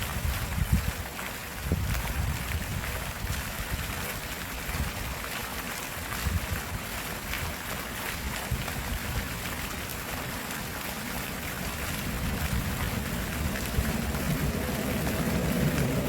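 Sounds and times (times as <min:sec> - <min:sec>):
wind rumble on microphone: 0:00.0 - 0:10.4, 0:11.1 - 0:16.0
stream water rushing and splashing: 0:00.0 - 0:16.0.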